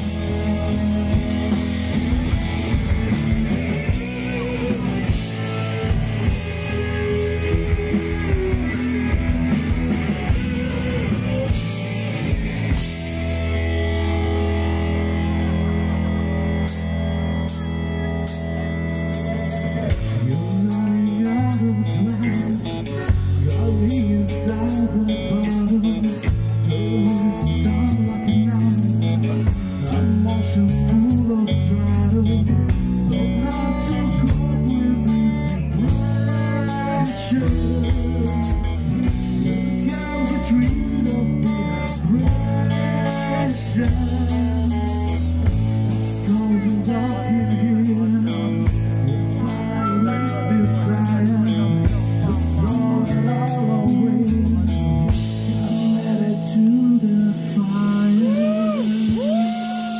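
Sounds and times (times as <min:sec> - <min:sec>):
bass guitar: 0:00.0 - 0:59.9
drum kit: 0:00.0 - 0:59.9
electric guitars: 0:00.0 - 0:59.9
person singing: 0:00.0 - 0:59.9.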